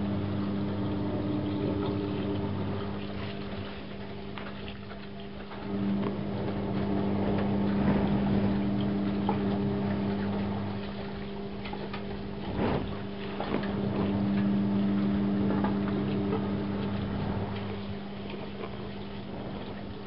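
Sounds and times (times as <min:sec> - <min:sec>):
washing machine motor hum: 0:00.0 - 0:20.0
water swishing in drum: 0:00.0 - 0:20.0.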